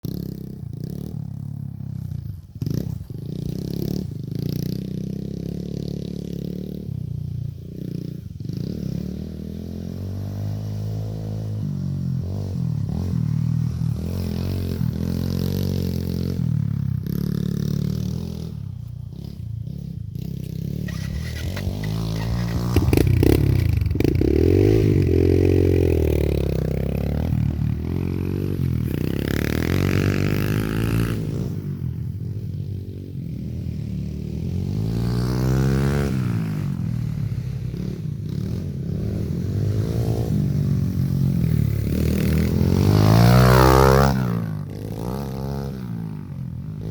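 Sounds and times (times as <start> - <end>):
dirt bike engine revving: 2.6 - 46.9.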